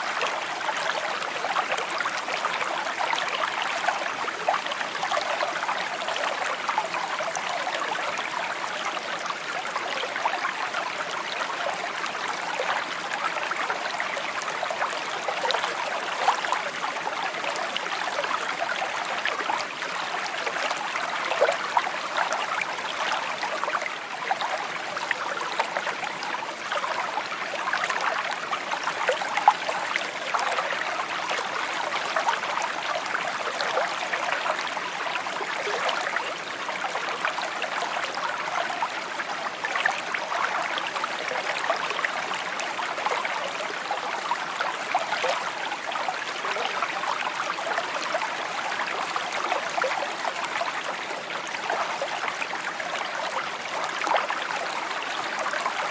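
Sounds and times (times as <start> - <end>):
stream babbling over stones: 0.0 - 55.9.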